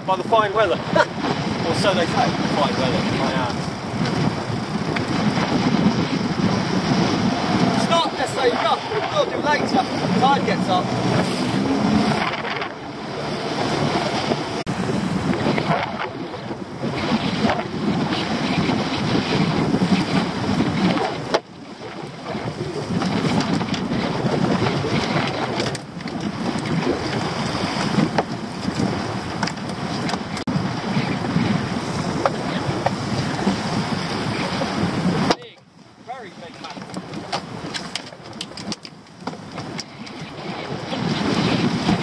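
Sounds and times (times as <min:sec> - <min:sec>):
waves splashing against boat hull: 0:00.0 - 0:42.0
wind buffeting microphone: 0:00.0 - 0:42.0.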